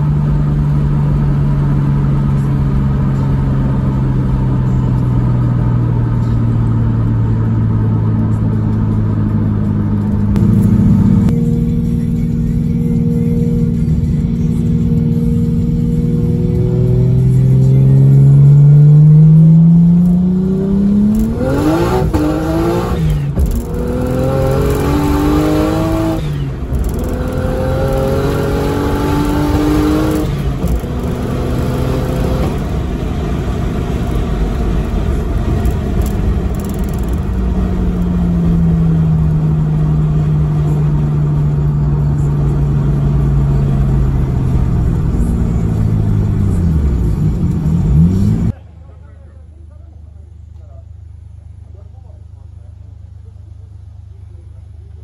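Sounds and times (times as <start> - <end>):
car engine accelerating: 0.0 - 49.2
road noise: 0.0 - 55.0.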